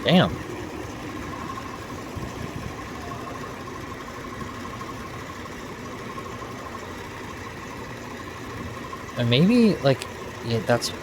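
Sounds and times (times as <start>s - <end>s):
air conditioning hum: 0.0s - 11.0s
car engine idling: 0.0s - 11.0s.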